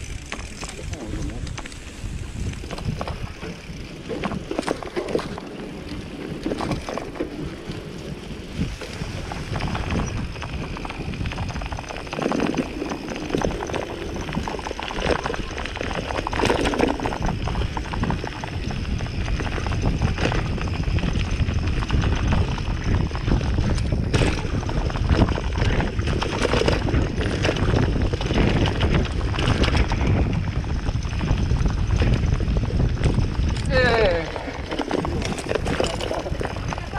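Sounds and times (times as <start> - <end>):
bike knocking and rattling: 0.0 - 36.9
bike tyres rumbling on dirt: 0.0 - 36.9.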